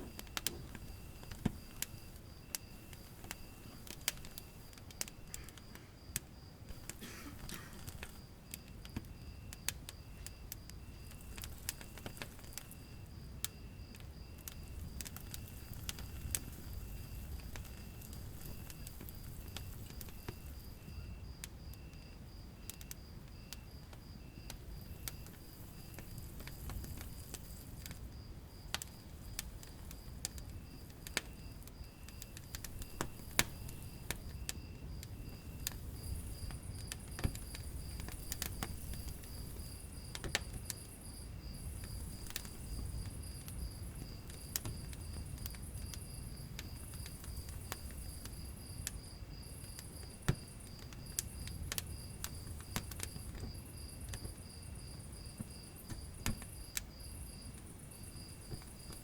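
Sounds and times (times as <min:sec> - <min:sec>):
insects chirping trill: 0:00.0 - 0:59.0
wood fire crackling and popping: 0:00.0 - 0:59.0.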